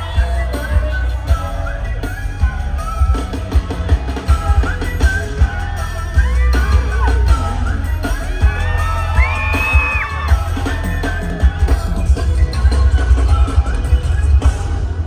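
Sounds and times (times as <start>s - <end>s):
heavy bass: 0.0s - 15.0s
live pop music: 0.0s - 15.0s
pounding kick drum: 2.4s - 15.0s.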